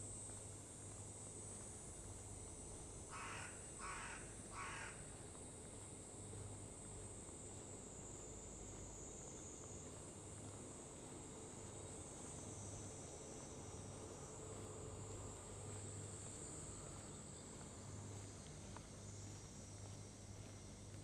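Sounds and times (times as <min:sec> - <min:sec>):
faint low hum: 0:00.0 - 0:21.0
insects trilling: 0:00.0 - 0:21.0.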